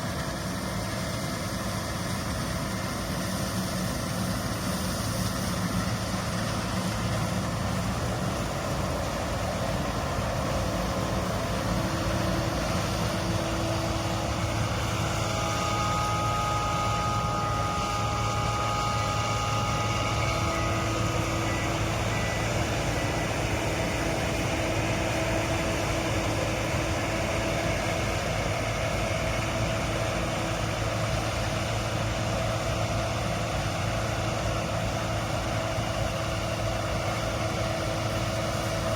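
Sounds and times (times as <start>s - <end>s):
combine harvester running: 0.0s - 38.9s
high two-tone whine: 0.0s - 38.9s.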